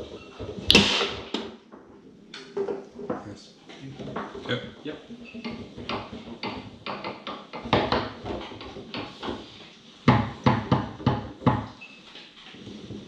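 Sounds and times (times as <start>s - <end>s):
foosball ball clacking: 0.0s - 3.2s, 4.0s - 11.8s.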